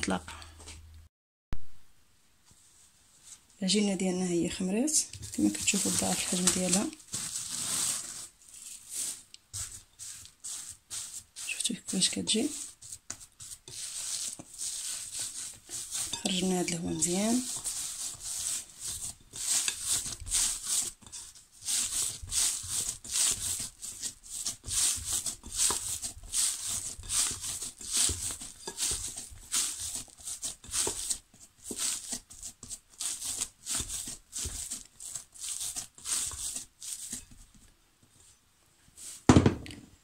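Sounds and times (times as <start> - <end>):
hands kneading dough: 2.5 - 39.3.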